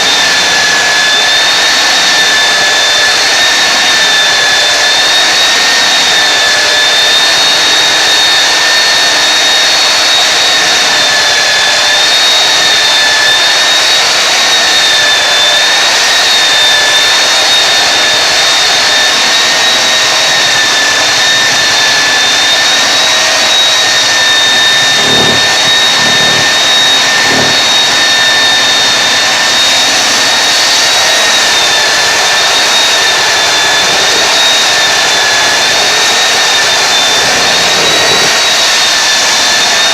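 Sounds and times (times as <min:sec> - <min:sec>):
floor sander whining: 0:00.0 - 0:39.9.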